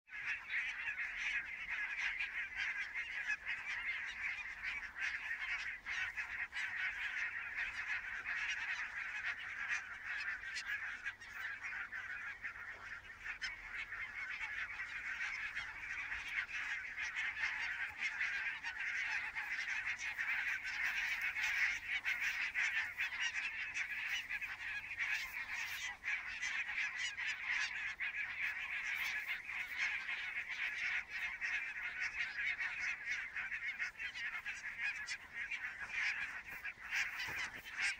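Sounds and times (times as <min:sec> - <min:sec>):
flock of geese honking: 0:00.1 - 0:37.9.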